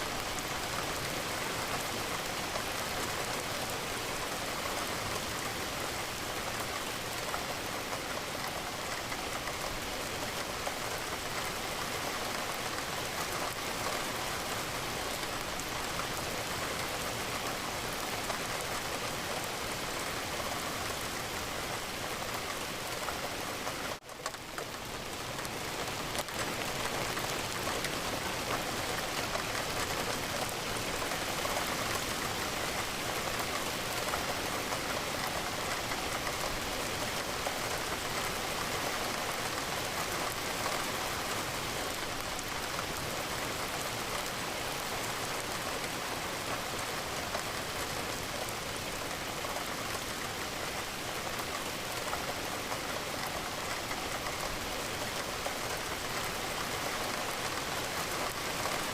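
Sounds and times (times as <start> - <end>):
rain pattering against a window: 0.0 - 58.9.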